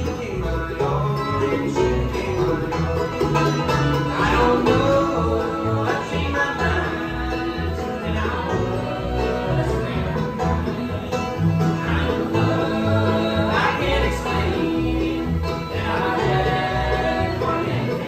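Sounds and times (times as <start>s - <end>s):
banjo picking: 0.0s - 18.0s
bass line: 0.0s - 18.0s
bluegrass band playing: 0.0s - 18.0s.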